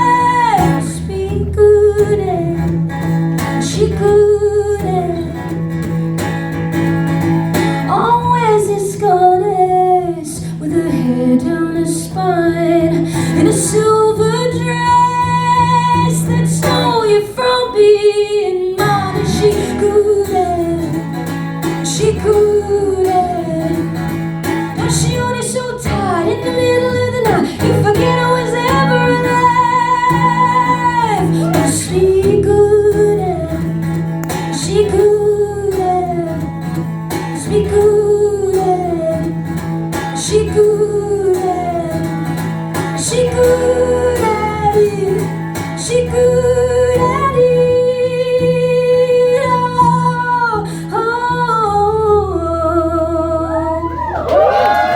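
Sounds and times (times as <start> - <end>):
woman singing: 0.0 - 5.9, 7.6 - 54.9
strummed acoustic guitar: 0.0 - 53.6.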